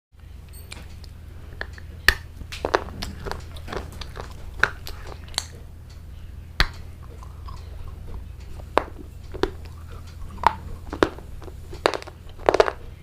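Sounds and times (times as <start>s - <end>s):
crunchy biting and chewing: 0.8s - 13.0s.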